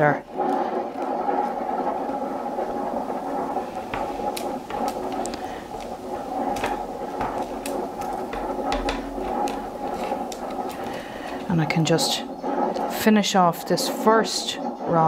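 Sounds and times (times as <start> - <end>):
steady hum: 0.0 - 15.0
willow rods creaking and clicking: 2.2 - 15.0.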